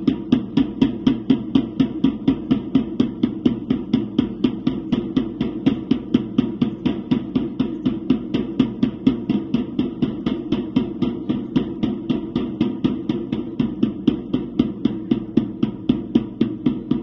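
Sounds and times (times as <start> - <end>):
drum beaten in fast rhythm: 0.0 - 17.0.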